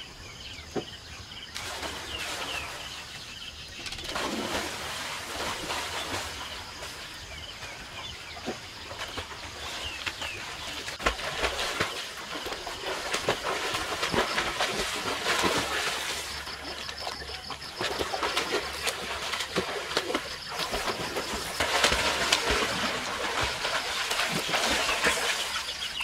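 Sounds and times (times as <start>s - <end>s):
water splashing from swimming: 1.5s - 3.2s, 3.9s - 26.0s.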